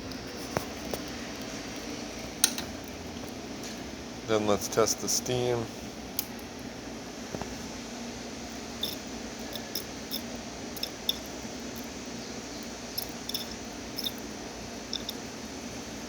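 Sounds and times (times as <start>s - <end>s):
espresso machine pump hum: 0.0s - 16.0s.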